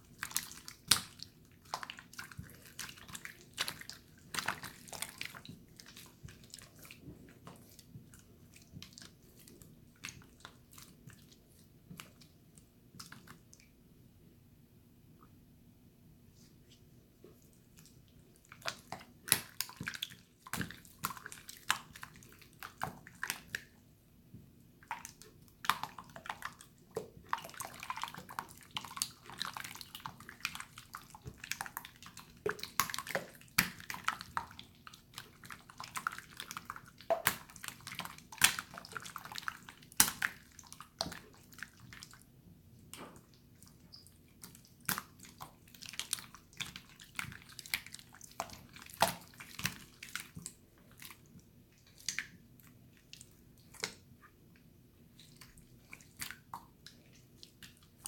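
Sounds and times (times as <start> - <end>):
hands squishing wet slime: 0.0 - 13.8, 16.4 - 58.0.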